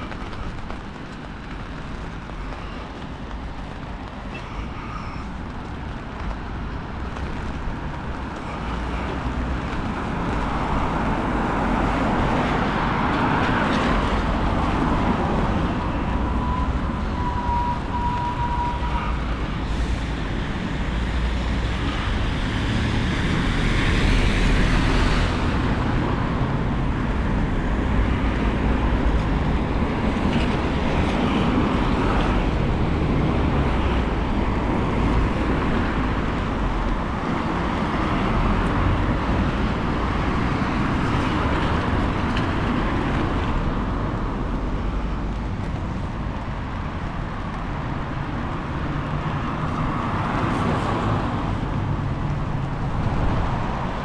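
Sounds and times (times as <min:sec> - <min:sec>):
traffic on a wet street: 0:00.0 - 0:54.0
wind rumbling on microphone: 0:00.0 - 0:54.0.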